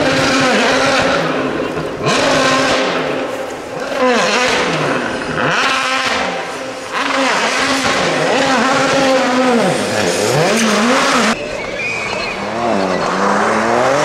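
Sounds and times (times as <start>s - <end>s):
car engine revving hard: 0.0s - 11.4s, 12.4s - 14.0s
wheels spinning in snow: 0.0s - 14.0s.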